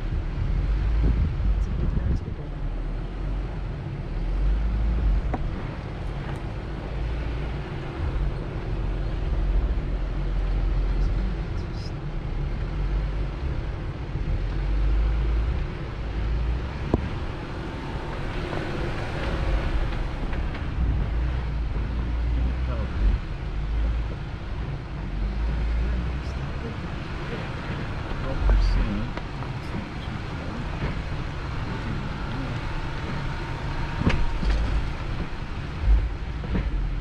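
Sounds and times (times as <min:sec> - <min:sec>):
vehicle engine and tyres rumbling: 0:00.0 - 0:37.0.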